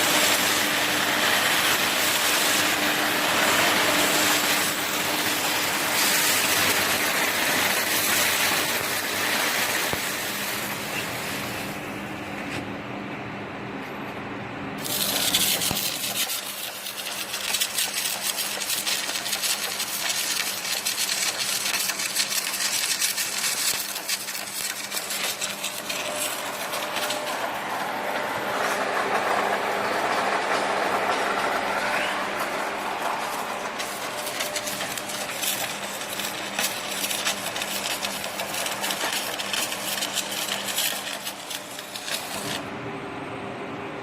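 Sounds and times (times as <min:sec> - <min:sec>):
arc welding crackling and sizzling: 0:00.0 - 0:11.9, 0:14.8 - 0:42.7.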